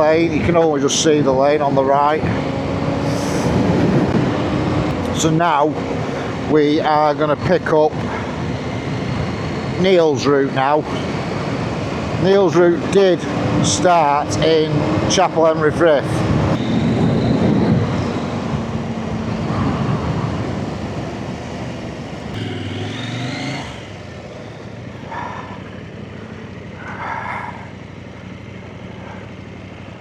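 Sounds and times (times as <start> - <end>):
motorcycle engines running: 0.0 - 30.0
motorcycle engine revving: 1.2 - 30.0.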